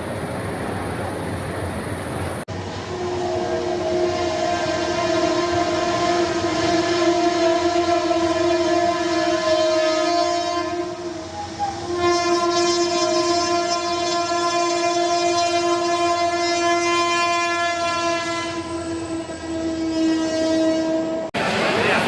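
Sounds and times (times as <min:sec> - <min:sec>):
train low rumble: 0:00.0 - 0:22.0
train horn chord: 0:02.6 - 0:21.4.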